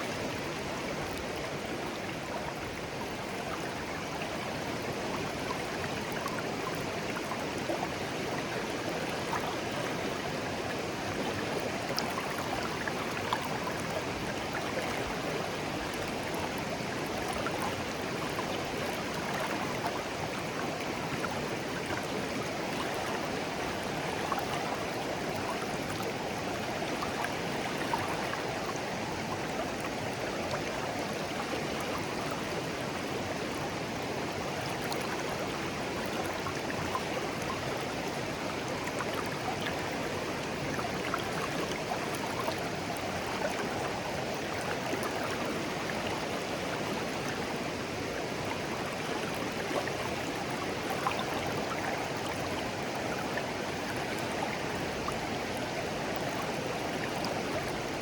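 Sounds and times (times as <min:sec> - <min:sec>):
stream babbling over stones: 0:00.1 - 0:58.0.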